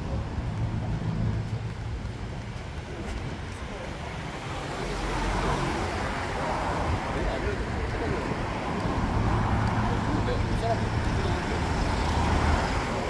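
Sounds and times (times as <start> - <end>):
people talking: 0.0 - 13.0
vehicle passing: 0.1 - 13.0.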